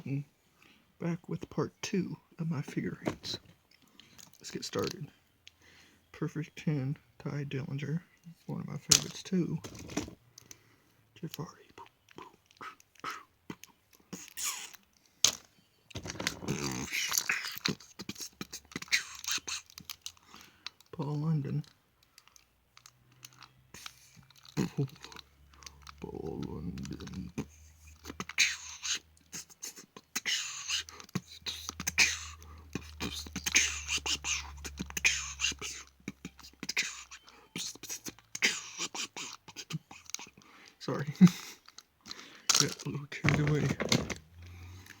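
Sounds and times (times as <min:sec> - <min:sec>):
plastic figures clicking and rustling: 0:02.6 - 0:05.5, 0:08.1 - 0:10.6, 0:11.2 - 0:45.0.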